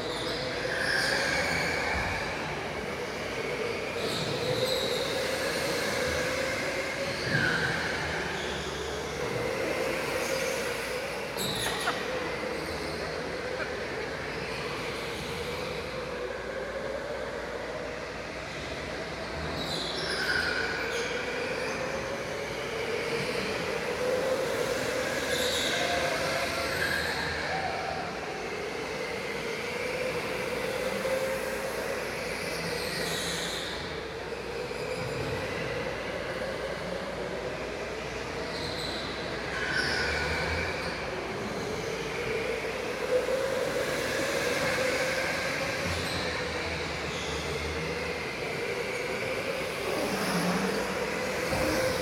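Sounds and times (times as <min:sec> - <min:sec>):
electric go-kart motor whine: 0:00.0 - 0:52.0.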